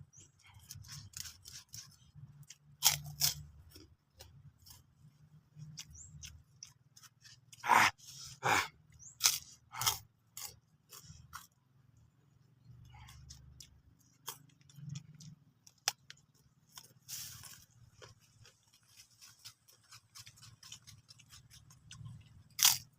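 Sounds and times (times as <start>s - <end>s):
person chewing crunchy fruit: 0.0s - 22.9s.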